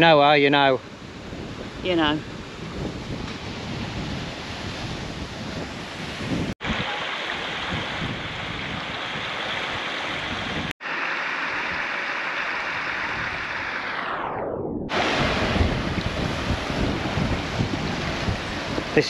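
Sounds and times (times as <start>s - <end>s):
rushing water: 0.3s - 14.2s, 14.9s - 19.0s
wind gusting on microphone: 0.6s - 10.7s, 11.5s - 19.0s.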